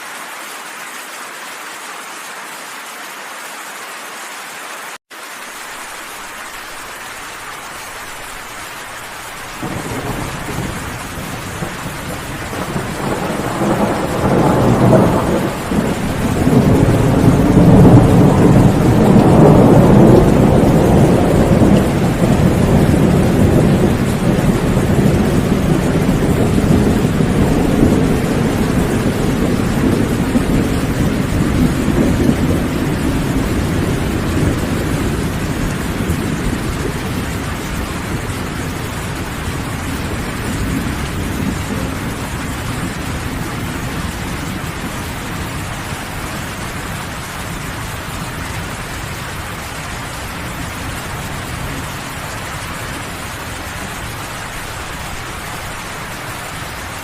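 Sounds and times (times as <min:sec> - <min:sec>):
rain falling: 0:00.0 - 0:57.0
thunder rumbling: 0:08.0 - 0:57.0.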